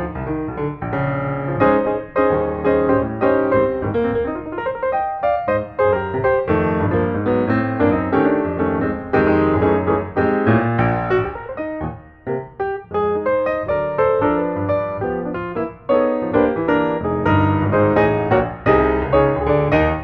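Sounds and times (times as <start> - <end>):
piano music with bass line: 0.0 - 20.0.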